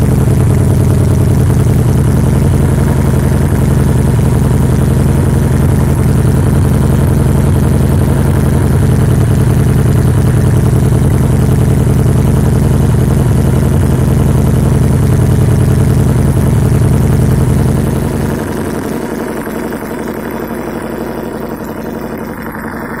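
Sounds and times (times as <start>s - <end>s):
machine low drone: 0.0s - 23.0s.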